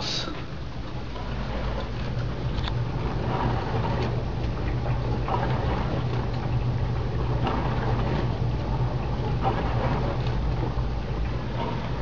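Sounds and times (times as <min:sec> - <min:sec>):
dishwasher humming: 0:00.0 - 0:12.0
water spraying and sloshing: 0:00.0 - 0:12.0.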